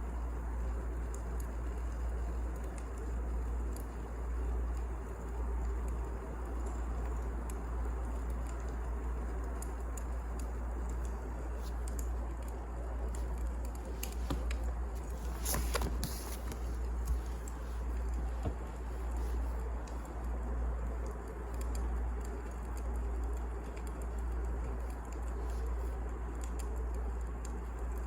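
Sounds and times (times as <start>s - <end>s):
wood fire crackling and popping: 0.2s - 28.0s.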